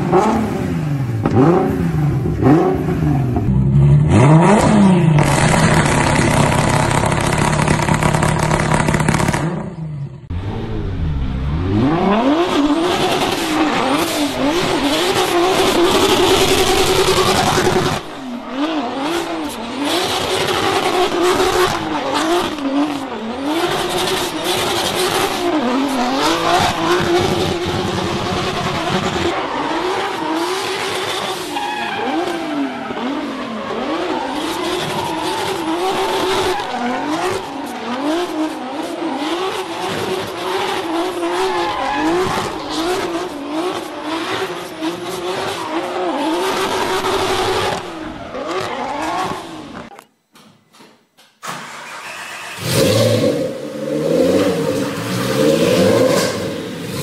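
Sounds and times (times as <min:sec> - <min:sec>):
car engine revving hard: 0:00.0 - 0:09.7, 0:10.3 - 0:49.8, 0:51.8 - 0:57.0.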